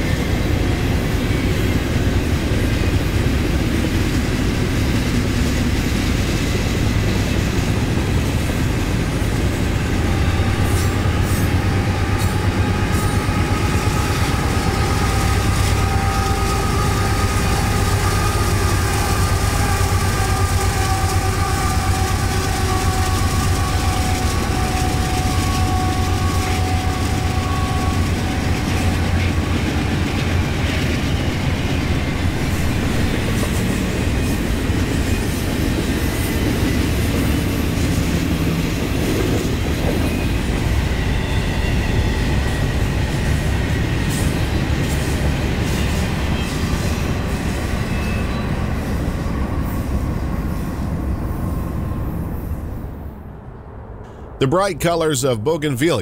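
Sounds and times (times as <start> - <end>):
wheels rumbling on rail: 0.0 - 54.4
locomotive engines droning: 0.0 - 56.0.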